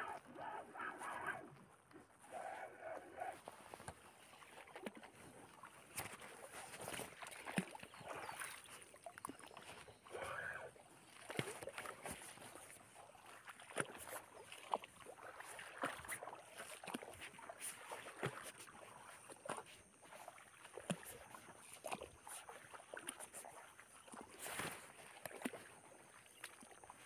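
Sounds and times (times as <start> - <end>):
light splashing water: 0.0 - 27.0.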